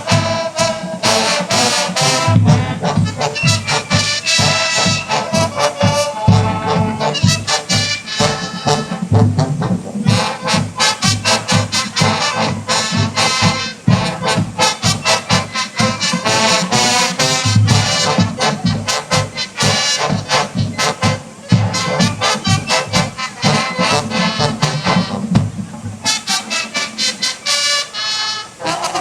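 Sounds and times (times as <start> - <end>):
drumline beat: 0.0 - 27.8
brass horns playing tune: 0.0 - 29.0.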